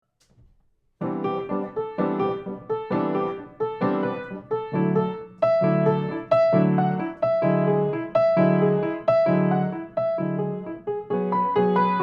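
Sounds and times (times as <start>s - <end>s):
piano chords: 1.0s - 12.0s.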